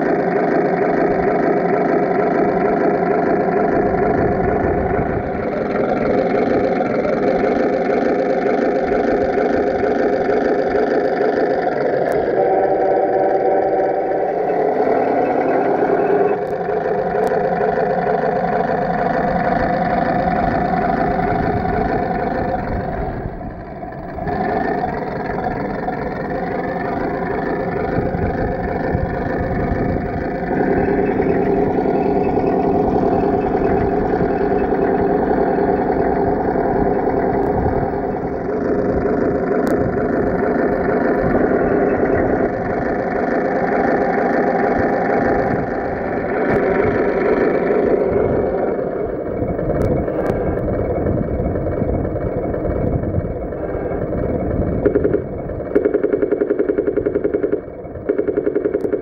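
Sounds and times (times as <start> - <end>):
model tank mechanical whine: 0.0 - 59.0.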